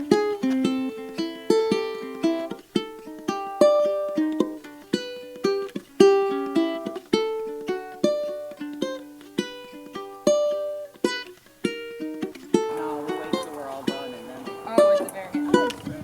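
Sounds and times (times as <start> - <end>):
ukulele picking a bright melody: 0.0 - 16.0.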